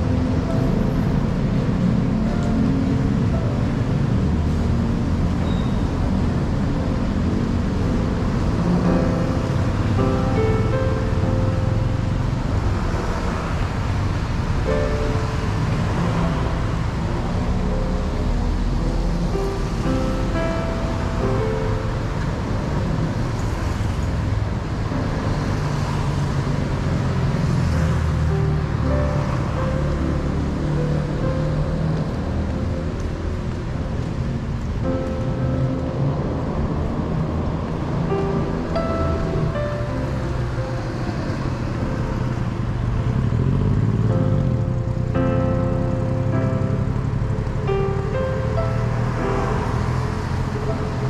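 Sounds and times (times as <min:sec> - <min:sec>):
city traffic rumble: 0:00.0 - 0:51.0.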